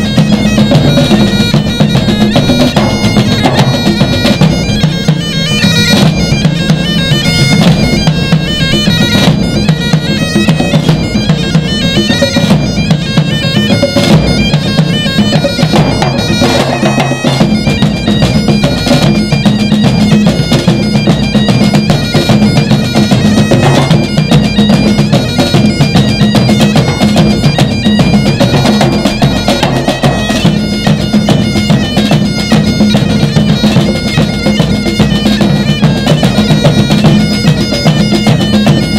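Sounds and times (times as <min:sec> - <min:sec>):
bagpipes playing a melody: 0:00.0 - 0:38.9
congas: 0:00.0 - 0:38.9
snare drum: 0:00.0 - 0:38.9.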